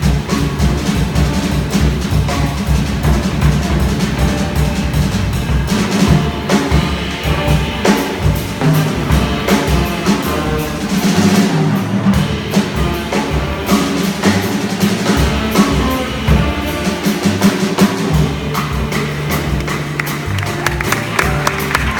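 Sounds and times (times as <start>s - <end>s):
drum kit strikes: 0.0s - 21.9s
jazz combo playing: 0.0s - 21.9s.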